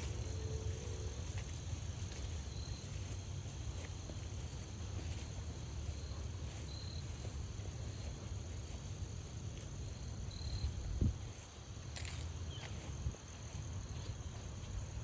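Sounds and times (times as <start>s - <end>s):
crickets trilling: 0.0s - 15.0s
low outdoor rumble: 0.0s - 15.0s.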